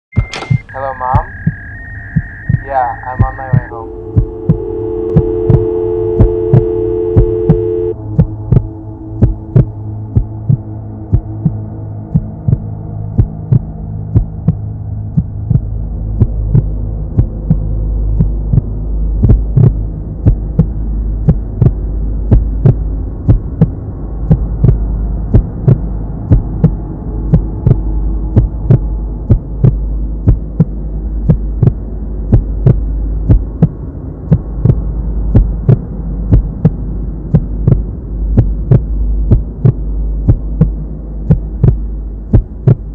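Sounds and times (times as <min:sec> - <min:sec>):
low sustained drone: 0:01.3 - 0:42.9.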